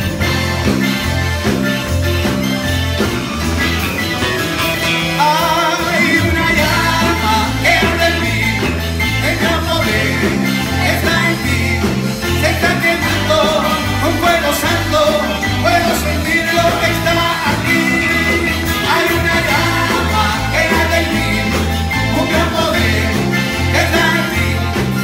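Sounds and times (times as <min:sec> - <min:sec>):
drum kit: 0:00.0 - 0:25.0
electric bass: 0:00.0 - 0:25.0
keyboard: 0:00.0 - 0:25.0.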